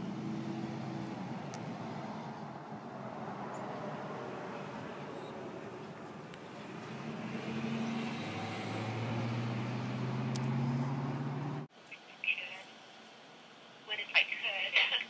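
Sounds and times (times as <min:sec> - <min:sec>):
low engine hum: 0:00.0 - 0:12.5
rushing road noise: 0:00.0 - 0:15.0.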